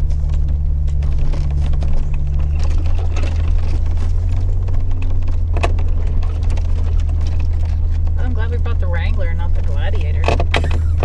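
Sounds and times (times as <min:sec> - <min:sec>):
small knocks and rattles: 0:00.0 - 0:08.8, 0:09.4 - 0:11.0
engine and drivetrain drone: 0:00.0 - 0:11.0.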